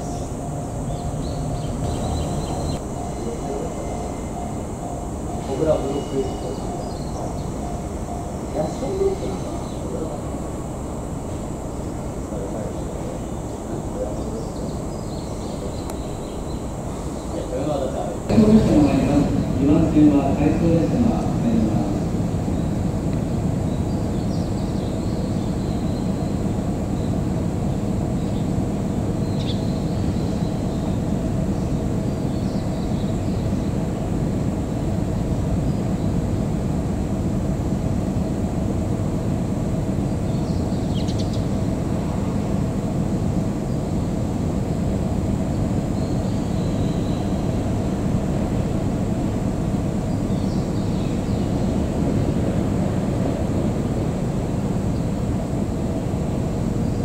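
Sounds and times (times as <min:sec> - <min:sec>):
birds chirping: 0:00.0 - 0:53.6
electric train rumbling: 0:00.0 - 0:57.0.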